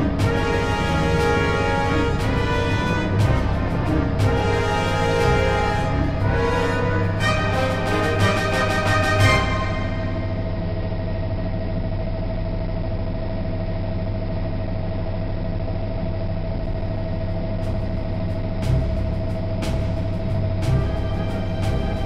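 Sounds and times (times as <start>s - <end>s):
helicopter rotor and turbine drone: 0.0s - 22.0s.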